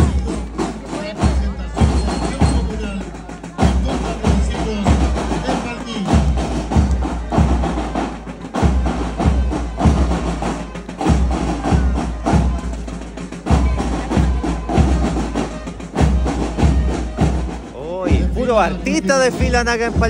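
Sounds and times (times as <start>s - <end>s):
bass drum beating: 0.0s - 20.0s
snare drum: 0.0s - 20.0s.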